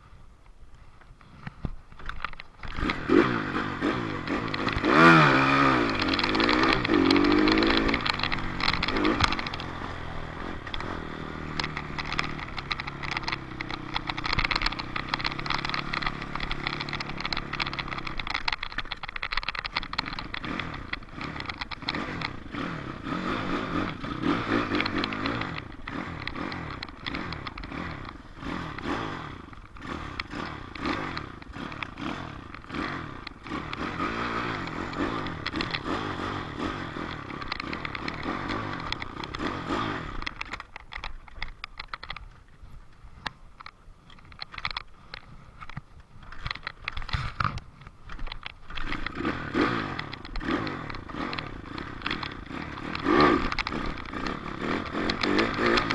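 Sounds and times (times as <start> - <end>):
rattling and clatter: 1.4 - 42.6, 43.2 - 55.9
dirt bike engine revving: 2.6 - 40.7, 48.6 - 55.9.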